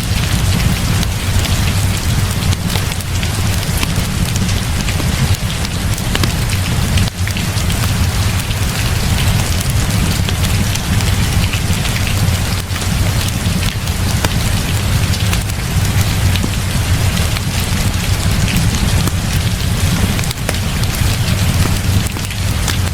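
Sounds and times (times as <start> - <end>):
constant low rumble: 0.0 - 22.9
heavy rain falling: 0.0 - 22.9.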